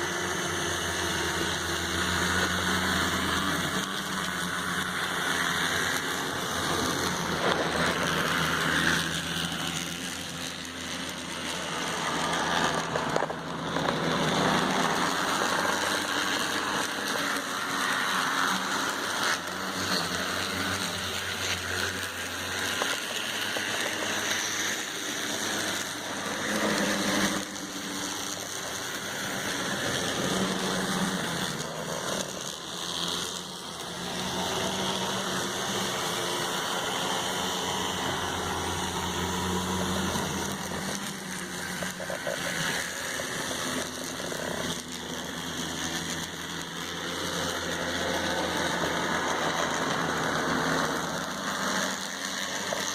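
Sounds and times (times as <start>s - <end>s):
model train motor whirring: 0.0s - 52.9s.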